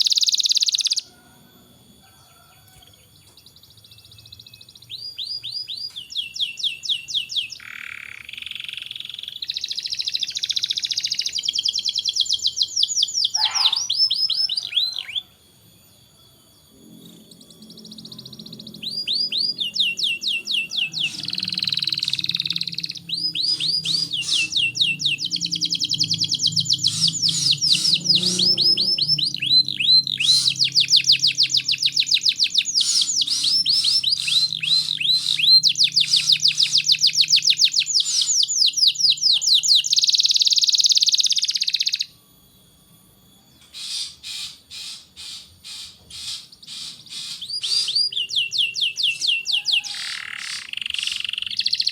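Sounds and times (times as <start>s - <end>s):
canary singing trills: 0.0s - 1.1s, 2.4s - 42.4s, 43.4s - 51.9s.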